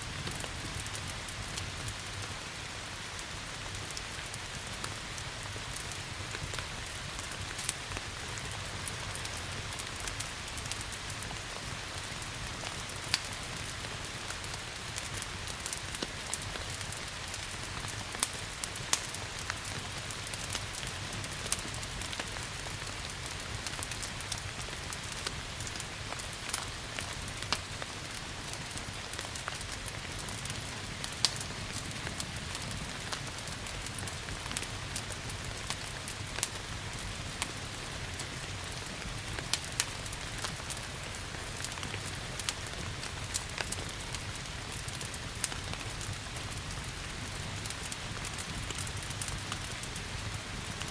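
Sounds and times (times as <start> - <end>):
rain hiss: 0.0 - 50.9
wood fire crackling and popping: 0.1 - 50.9.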